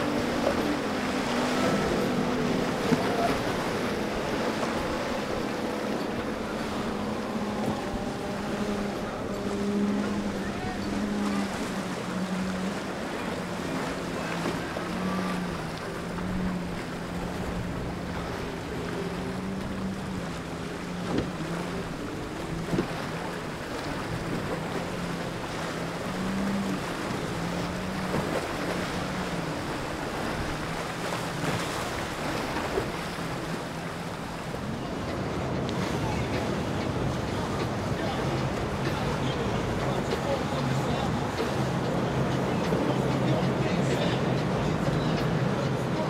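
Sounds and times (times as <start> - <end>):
motorboat engine humming: 0.0 - 46.0
water wash: 0.0 - 46.0.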